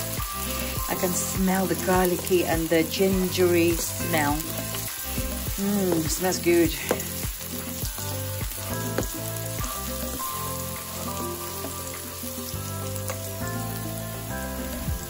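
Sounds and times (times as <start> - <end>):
garlic sizzling in oil: 0.0 - 15.0
soft background music: 0.0 - 15.0.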